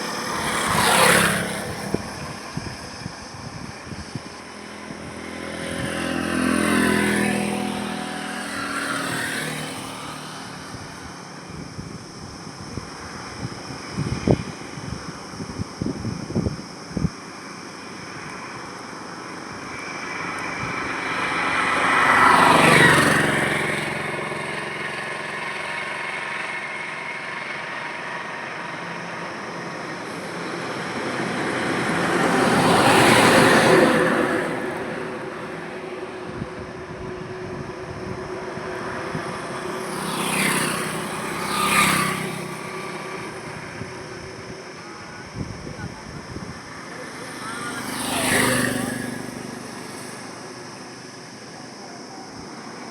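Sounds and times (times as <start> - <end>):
steady traffic hum: 0.0 - 52.9
vehicles passing: 0.0 - 52.9.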